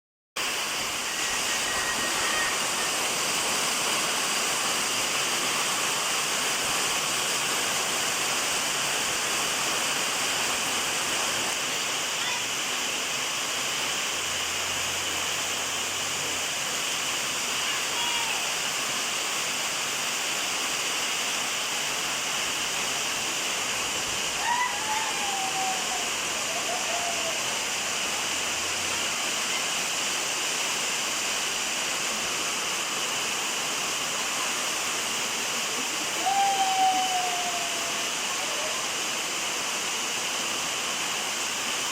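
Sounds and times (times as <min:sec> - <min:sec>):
heavy rain falling: 0:00.4 - 0:41.9.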